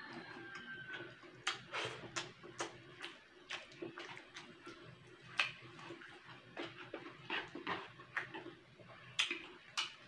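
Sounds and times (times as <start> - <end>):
wet chewing and lip smacks: 0.0 - 10.0.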